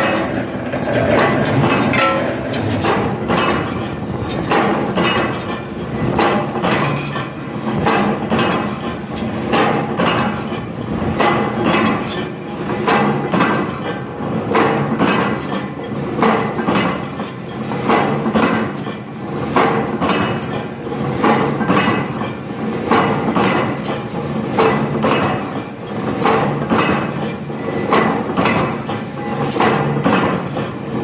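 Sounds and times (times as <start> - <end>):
machine knocks: 0.0 - 17.1, 21.2 - 24.0, 24.6 - 30.9
steady mechanical clatter: 0.0 - 31.0.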